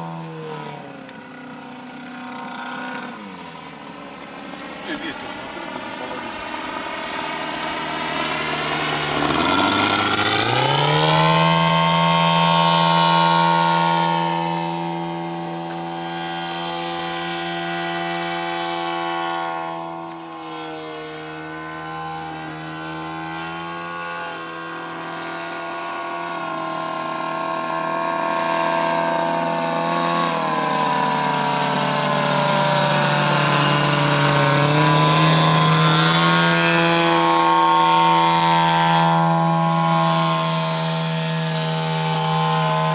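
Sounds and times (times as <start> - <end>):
model airplane engine and propeller: 0.0 - 42.9.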